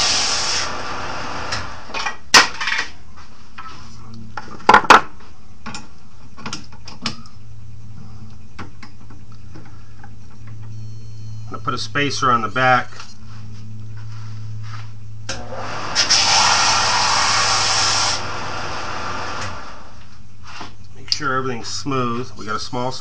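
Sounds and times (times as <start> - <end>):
low steady hum: 0.7 - 23.0.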